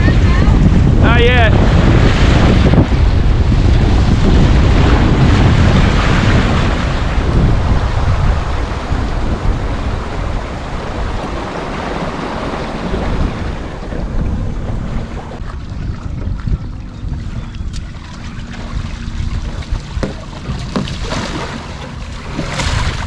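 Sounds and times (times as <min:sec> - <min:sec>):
water rushing along hulls: 0:00.0 - 0:23.0
wind buffeting microphone: 0:00.0 - 0:23.0.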